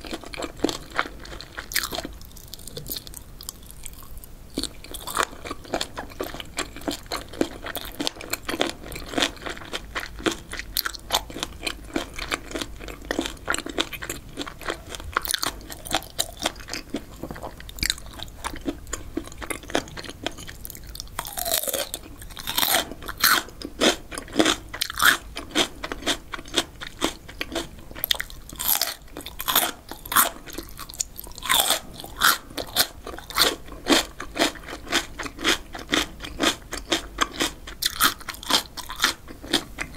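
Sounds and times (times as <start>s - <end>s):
chewing with wet crunches: 0.0s - 39.9s.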